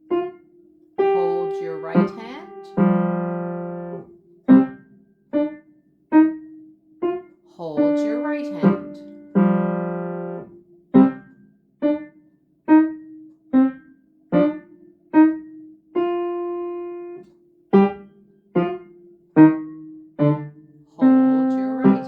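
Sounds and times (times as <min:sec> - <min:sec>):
slow piano notes: 0:00.0 - 0:22.0.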